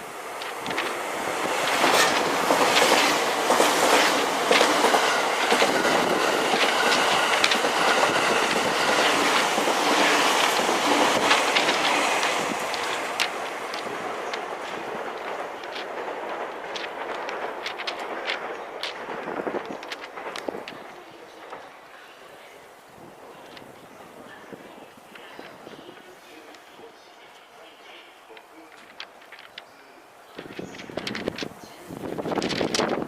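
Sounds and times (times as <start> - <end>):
train wheels clicking over rail joints: 0.0 - 27.4, 28.2 - 33.0.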